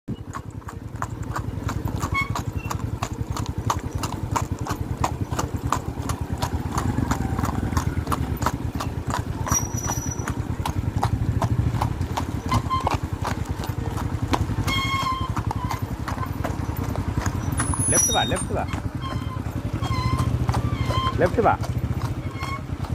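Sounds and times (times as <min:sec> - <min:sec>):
horse hooves clip-clopping: 0:00.1 - 0:22.9.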